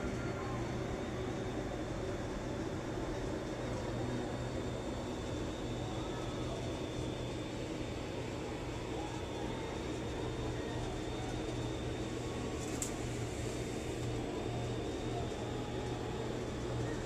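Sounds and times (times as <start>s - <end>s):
muffled street crowd: 0.0s - 17.0s
room hum and hiss: 0.0s - 17.0s.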